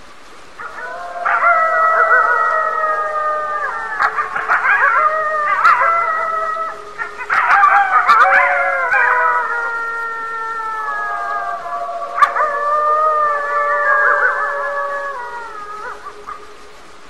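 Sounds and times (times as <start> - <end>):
canids howling in chorus: 0.0 - 17.0.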